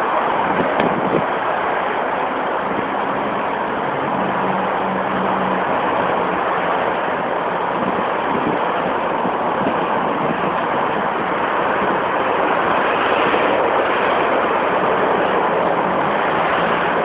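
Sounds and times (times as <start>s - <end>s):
dense motorway traffic passing: 0.0s - 17.0s
low engine hum: 0.0s - 17.0s.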